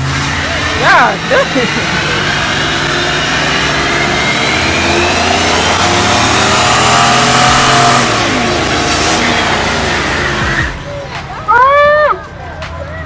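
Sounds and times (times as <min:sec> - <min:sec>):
car engine revving hard: 0:00.0 - 0:10.8
tyres screeching on asphalt: 0:00.0 - 0:12.3.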